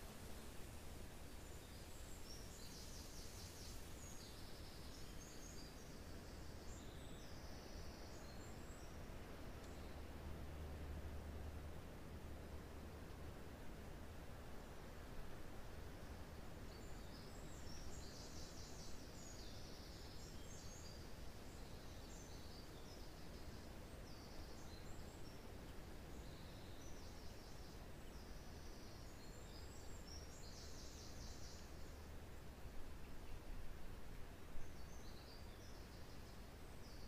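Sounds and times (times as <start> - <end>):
wind through pine trees: 0.0 - 37.0.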